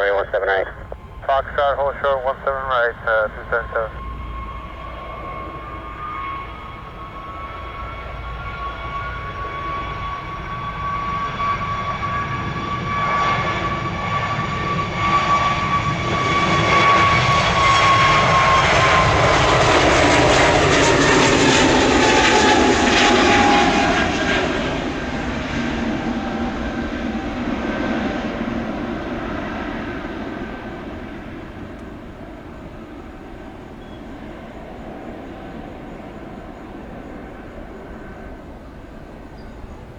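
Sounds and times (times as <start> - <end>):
jet airliner passing: 0.0 - 39.9.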